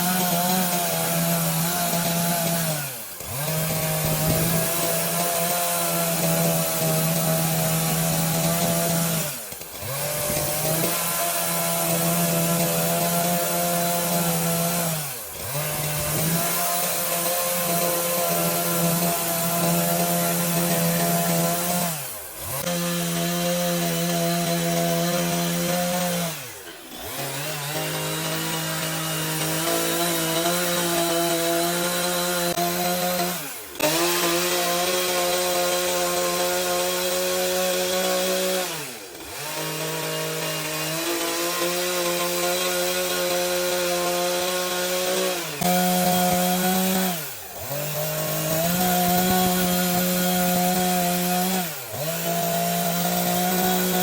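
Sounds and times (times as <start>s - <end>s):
power tool cutting wood: 0.0s - 54.0s.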